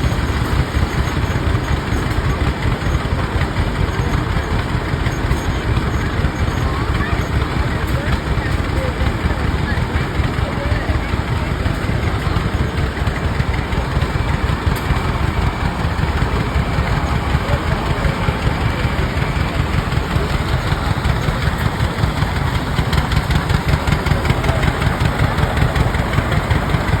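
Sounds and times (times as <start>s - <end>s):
tractor engines chugging: 0.0s - 27.0s.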